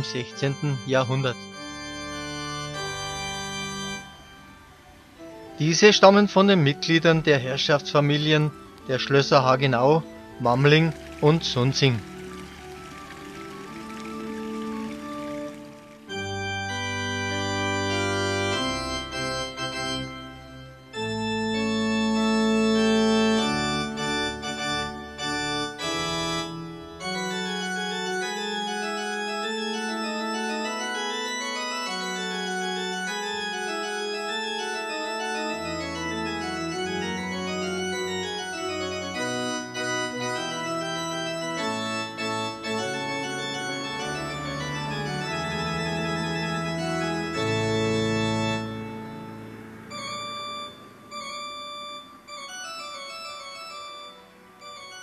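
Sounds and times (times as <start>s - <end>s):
organ music: 0.0s - 55.0s.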